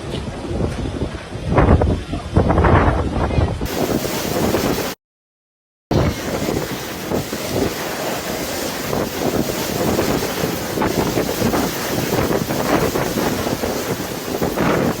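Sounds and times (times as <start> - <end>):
wind buffeting microphone: 0.0 - 5.0, 5.9 - 15.0.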